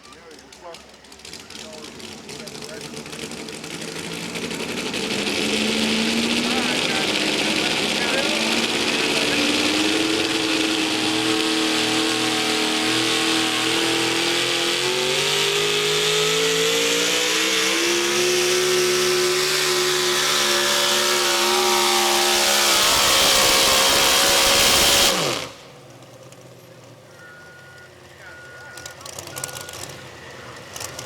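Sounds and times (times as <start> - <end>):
truck engine at full throttle: 0.0 - 31.0.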